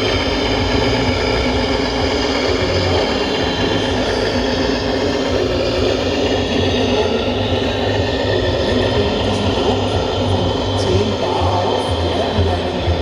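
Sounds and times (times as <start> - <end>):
mechanical hum of motors: 0.0 - 13.0
steady high tones: 0.0 - 13.0.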